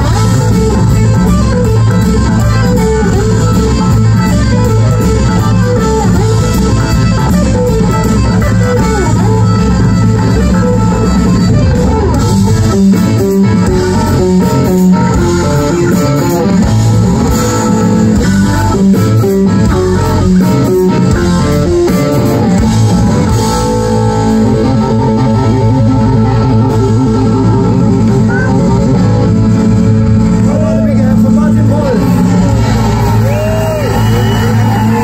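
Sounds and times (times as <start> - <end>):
bass guitar: 0.0 - 35.0
drums: 0.0 - 35.0
electric guitars: 0.0 - 35.0.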